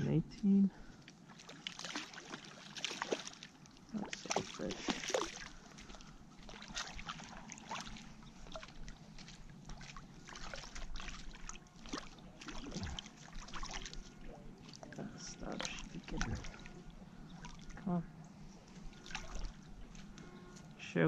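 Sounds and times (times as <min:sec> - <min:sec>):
fish splashing in water: 0:01.3 - 0:17.8, 0:18.8 - 0:20.2.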